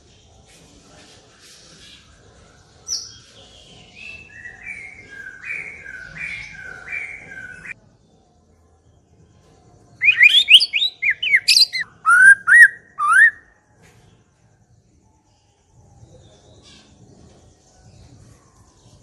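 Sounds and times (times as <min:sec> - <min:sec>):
songbird singing: 0:01.4 - 0:19.0.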